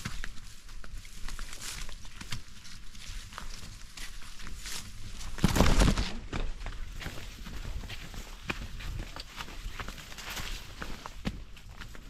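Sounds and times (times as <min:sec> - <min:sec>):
footsteps on a trail: 0:00.0 - 0:12.0
leaves and grass brushing: 0:00.0 - 0:12.0.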